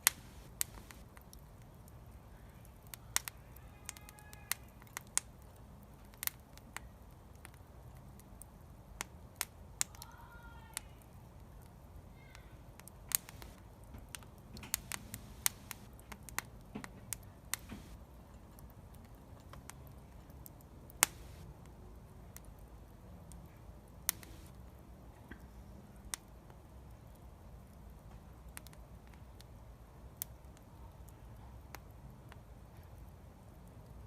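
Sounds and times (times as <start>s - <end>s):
wood fire crackling: 0.0s - 25.1s, 25.8s - 34.0s.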